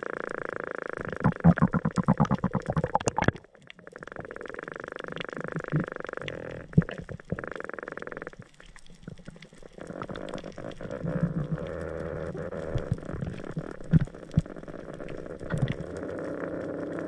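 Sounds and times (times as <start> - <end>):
underwater water noise: 0.0 - 17.0.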